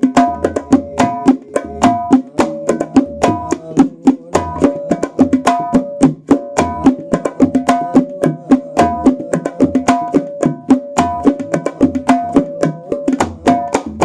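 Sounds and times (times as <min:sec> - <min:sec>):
frame drums playing fast rhythm: 0:00.0 - 0:14.0.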